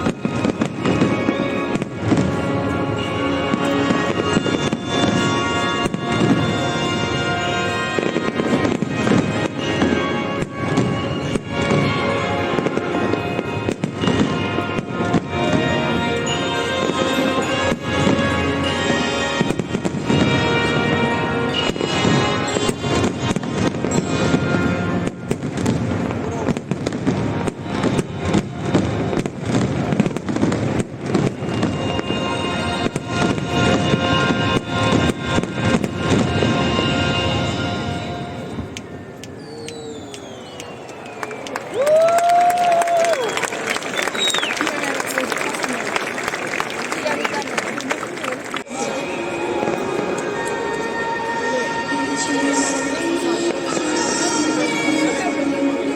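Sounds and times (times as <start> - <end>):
music soundtrack: 0.0 - 39.4, 48.6 - 55.9
fireworks bursting: 0.0 - 55.8.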